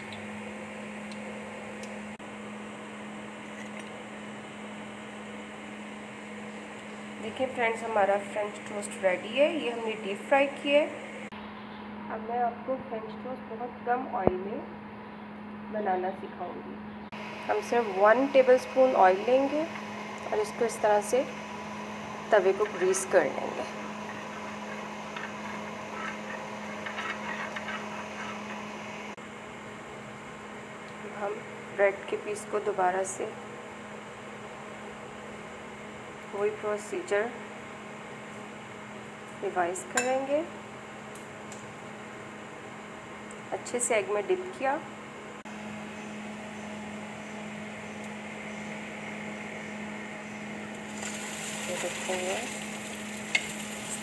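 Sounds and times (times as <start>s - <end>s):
steady low hum with hiss: 0.0s - 54.0s.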